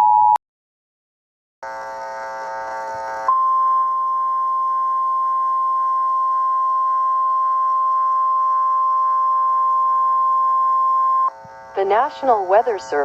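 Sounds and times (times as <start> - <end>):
steady alarm tone: 1.6 - 13.0.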